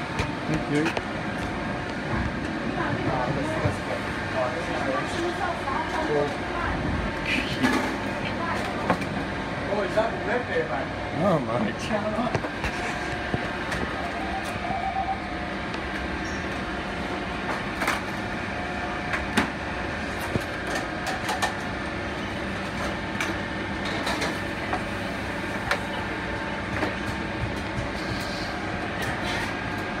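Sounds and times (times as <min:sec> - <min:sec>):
kitchen equipment drone: 0:00.0 - 0:30.0.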